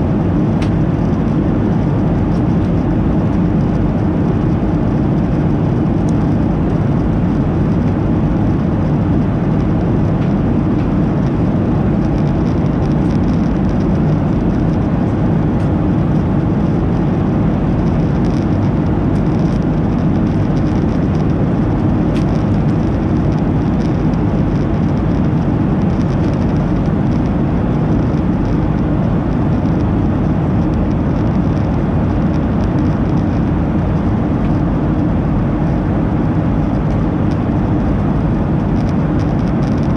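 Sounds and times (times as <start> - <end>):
airplane cabin engine noise: 0.0 - 39.9.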